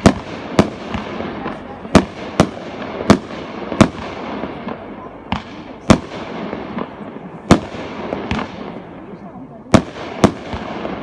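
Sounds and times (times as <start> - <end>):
firework bangs: 0.0 - 11.0
fireworks crackling: 0.0 - 11.0.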